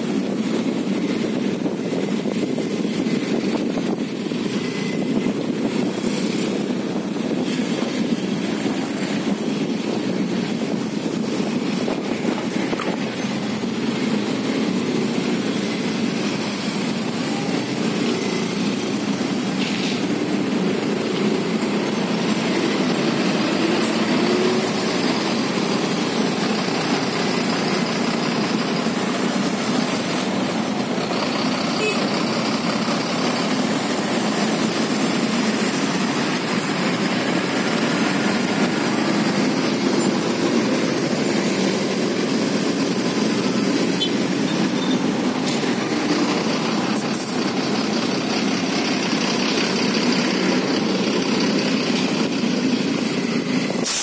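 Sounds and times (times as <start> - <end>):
motorcycle engines running: 0.0 - 53.9
tour bus engine: 0.0 - 54.0.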